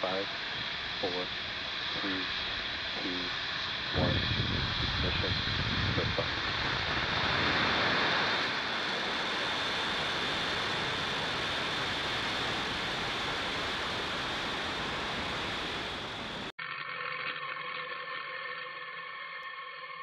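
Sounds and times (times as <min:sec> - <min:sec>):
rocket exhaust roaring: 0:00.0 - 0:16.9.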